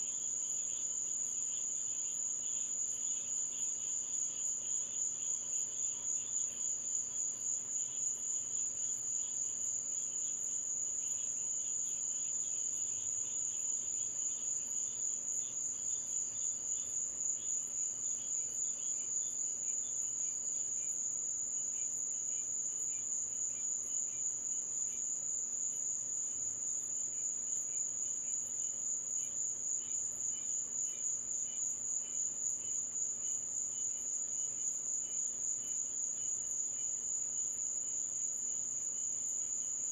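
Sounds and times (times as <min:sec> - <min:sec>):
crickets trilling in chorus: 0:00.0 - 0:39.9
lower chirping insect: 0:00.0 - 0:39.9.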